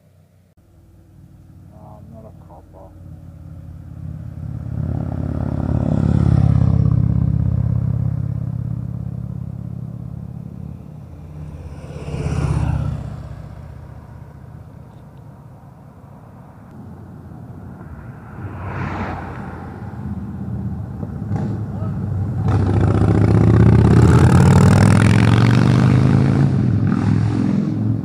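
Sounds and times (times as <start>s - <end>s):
motorcycles riding past: 1.1s - 28.0s.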